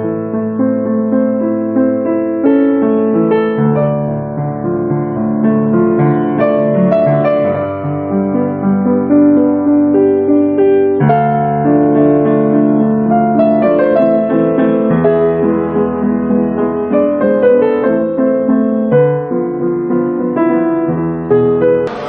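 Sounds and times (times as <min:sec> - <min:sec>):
slow solo piano: 0:00.0 - 0:22.0.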